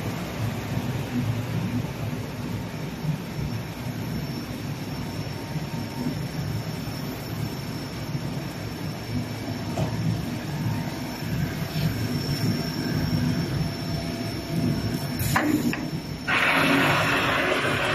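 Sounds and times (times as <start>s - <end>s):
faint high whine: 0.0s - 17.9s
machine rumble: 0.0s - 17.9s.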